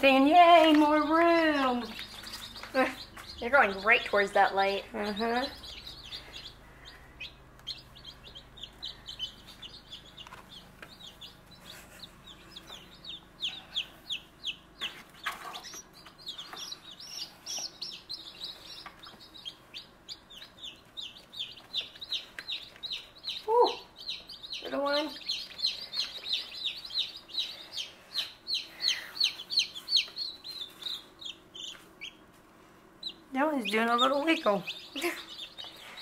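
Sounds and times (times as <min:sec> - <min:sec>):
chicks peeping: 0:00.0 - 0:36.0.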